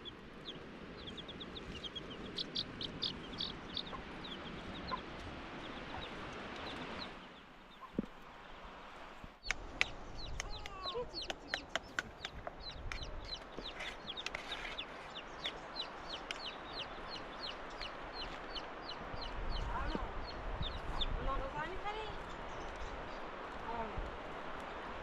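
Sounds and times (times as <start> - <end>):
chickens chirping: 0.0 - 21.5.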